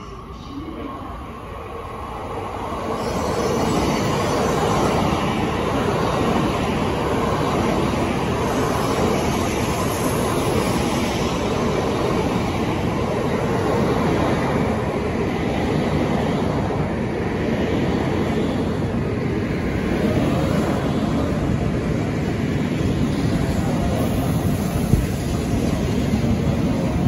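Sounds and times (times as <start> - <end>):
high-speed train rushing past: 0.0 - 27.0.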